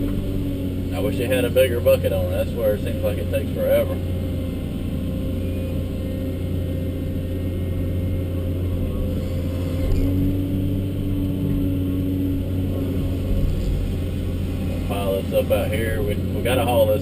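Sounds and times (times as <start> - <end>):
diesel engine running under load: 0.0 - 17.0
hydraulic whine: 0.0 - 17.0.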